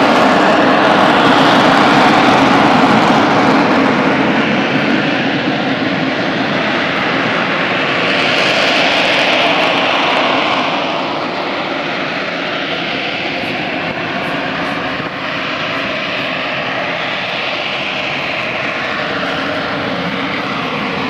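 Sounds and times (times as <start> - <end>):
airplane engine rushing: 0.0 - 21.0.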